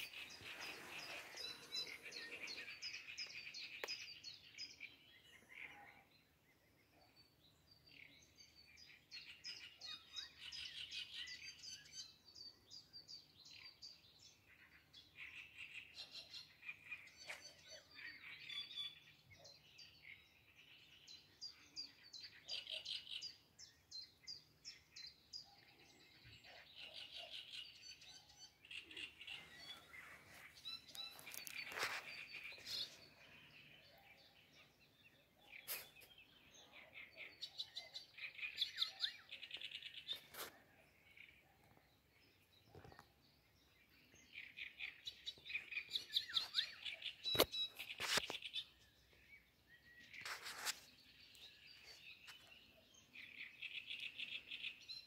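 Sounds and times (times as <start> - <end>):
faint bird chirps and calls: 0.0 - 55.0.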